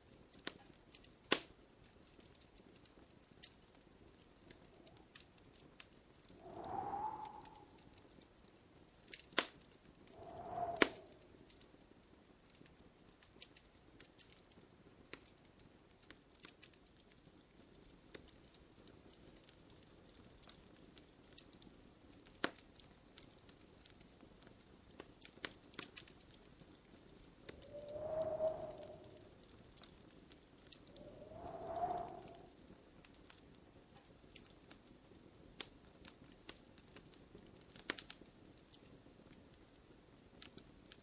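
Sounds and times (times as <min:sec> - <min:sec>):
wood fire crackling: 0:00.0 - 0:41.0
sharp pops from fire: 0:00.3 - 0:11.6, 0:12.5 - 0:32.5, 0:35.6 - 0:38.9.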